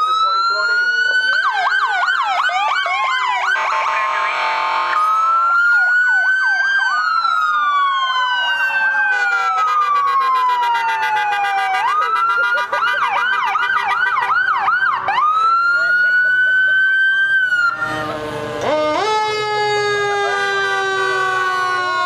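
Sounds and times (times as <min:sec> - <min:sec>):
emergency sirens wailing and yelping: 0:00.0 - 0:22.0.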